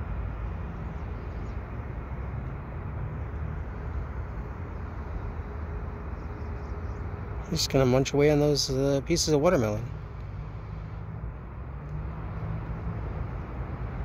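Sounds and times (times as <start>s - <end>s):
low city background rumble: 0.0s - 14.0s.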